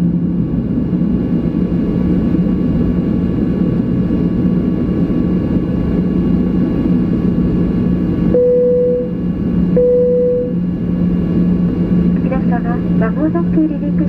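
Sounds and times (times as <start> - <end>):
airplane cabin hum: 0.0 - 14.0.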